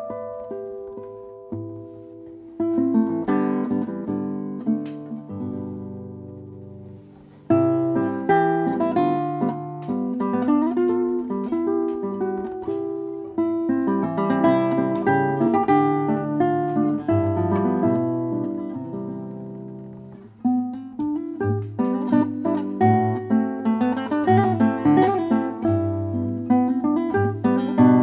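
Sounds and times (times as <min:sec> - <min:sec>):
solo fingerstyle guitar: 0:00.0 - 0:28.0.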